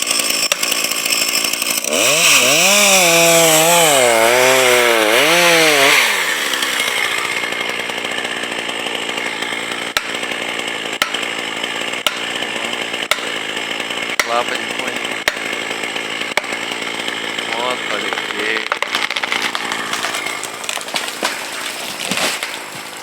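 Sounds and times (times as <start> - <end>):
logging machine motor running: 0.0 - 20.9.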